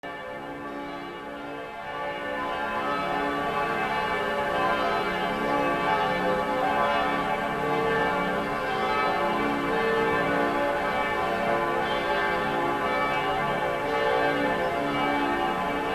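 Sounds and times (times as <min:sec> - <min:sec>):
church bells pealing: 0:00.0 - 0:15.9.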